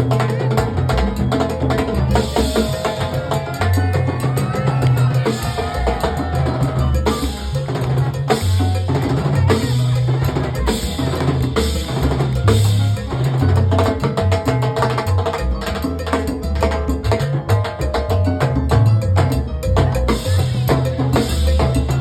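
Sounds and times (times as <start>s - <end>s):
bass line: 0.0s - 22.0s
latin dance music: 0.0s - 22.0s.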